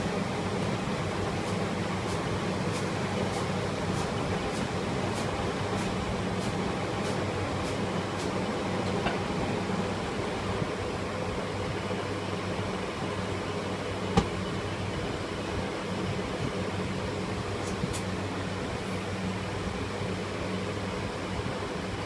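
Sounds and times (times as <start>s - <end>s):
gas burner and fan rushing: 0.0s - 22.0s.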